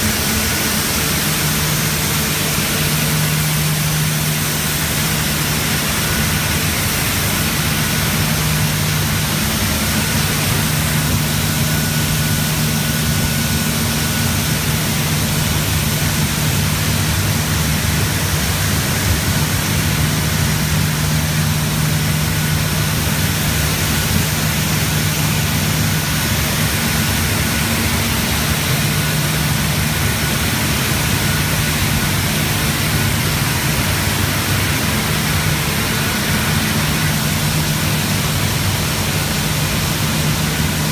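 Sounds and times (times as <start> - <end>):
high machine whine: 0.0 - 40.9
machine drone: 0.0 - 40.9.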